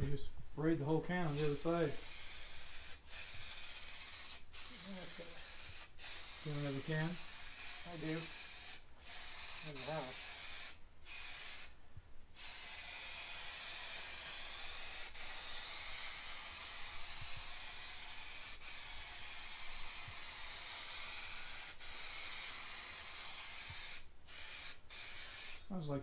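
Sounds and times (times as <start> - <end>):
spray paint can hissing: 1.3 - 11.8, 12.4 - 25.6.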